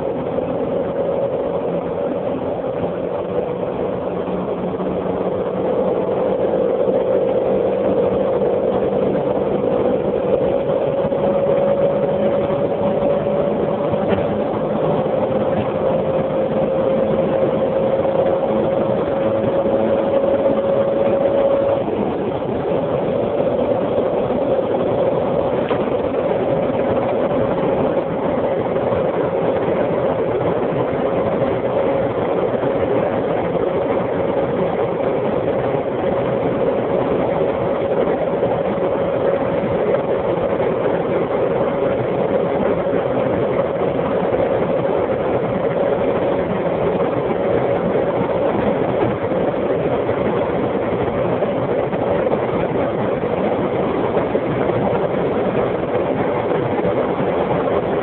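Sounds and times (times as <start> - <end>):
car engine note: 0.0 - 58.0
wind and road noise: 0.0 - 58.0.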